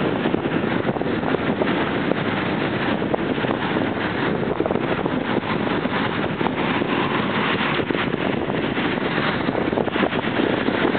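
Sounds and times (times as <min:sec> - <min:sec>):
distant jet engines roaring: 0:00.0 - 0:10.9
wind buffeting microphone: 0:00.0 - 0:10.9.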